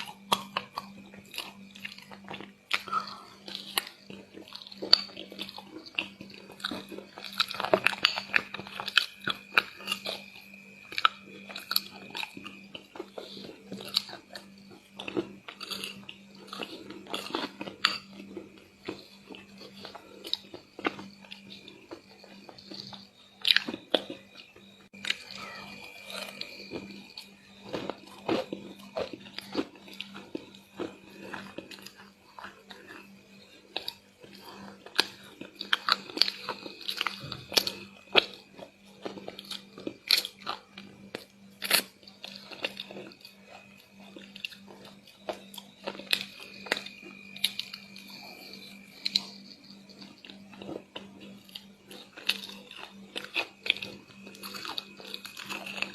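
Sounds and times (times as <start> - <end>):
mouth chewing crunchy food: 0.0 - 55.9.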